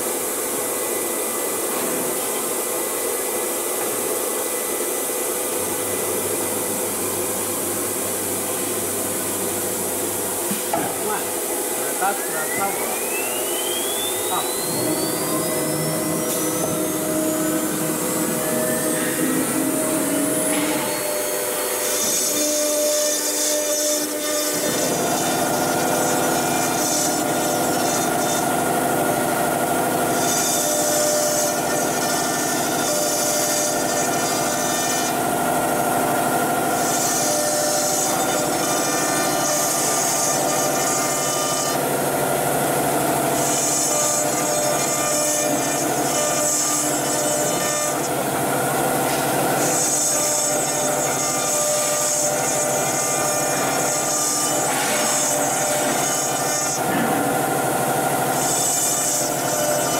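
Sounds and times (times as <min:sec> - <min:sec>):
router spindle whine: 0:00.0 - 0:59.9
router bit cutting wood: 0:05.6 - 0:59.9.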